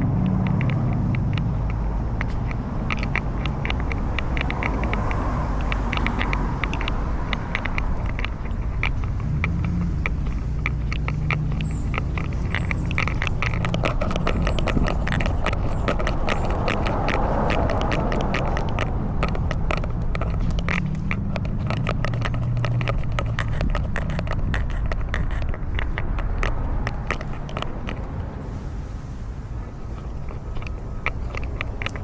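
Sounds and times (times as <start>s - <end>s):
collar camera rubbing rumble: 0.0s - 32.0s
quick ticks and crackles: 0.0s - 32.0s.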